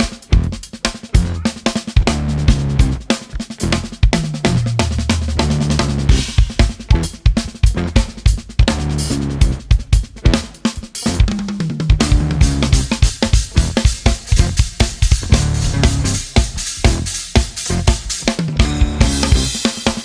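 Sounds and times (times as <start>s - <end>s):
drum kit playing: 0.0s - 20.0s
instrumental band music: 0.0s - 20.0s.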